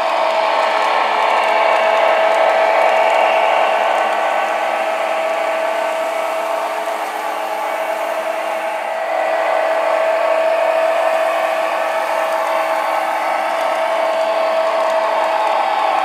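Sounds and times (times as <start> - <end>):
model train motor whine: 0.0 - 16.0.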